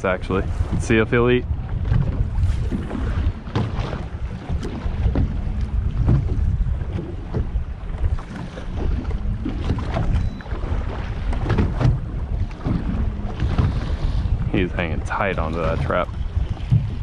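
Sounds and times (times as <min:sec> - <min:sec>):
waves slapping boat hull: 0:00.0 - 0:17.0
wind buffeting microphone: 0:00.0 - 0:17.0.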